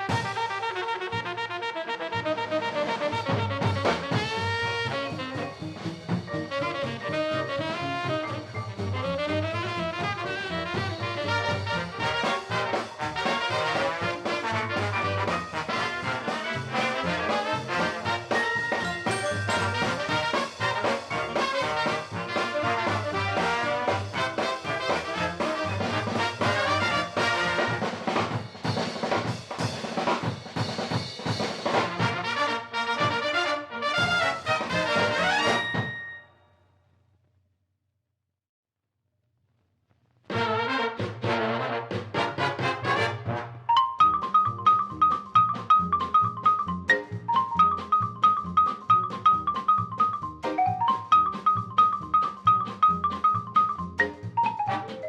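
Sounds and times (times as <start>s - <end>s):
ragtime band music: 0.0s - 36.1s, 40.3s - 55.0s.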